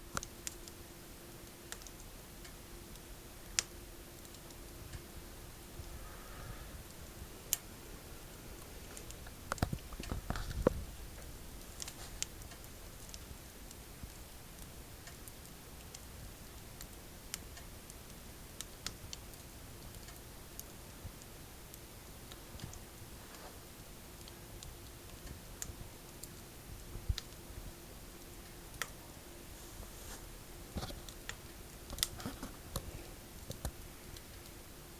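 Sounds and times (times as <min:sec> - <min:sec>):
firewood crackling in a stove: 0:00.0 - 0:34.9.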